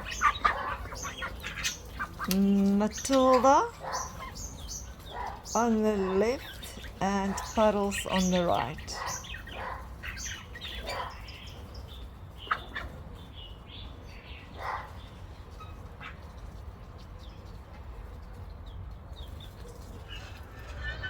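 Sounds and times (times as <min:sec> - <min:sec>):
bird calls and chirps: 0:00.0 - 0:21.0
low background hum: 0:00.0 - 0:21.0.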